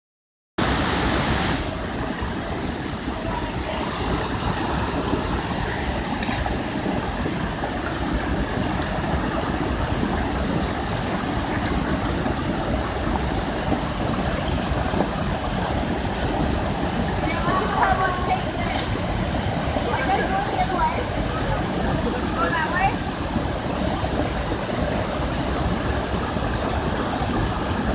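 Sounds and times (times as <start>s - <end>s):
water rushing over rocks: 0.6s - 27.9s.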